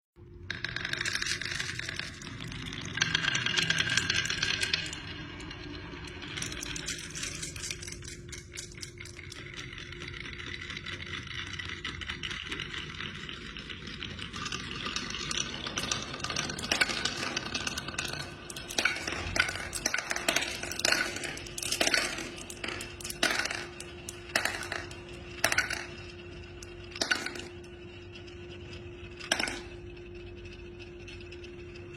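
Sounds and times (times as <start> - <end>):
wooden toy pieces clattering: 0.4 - 30.2.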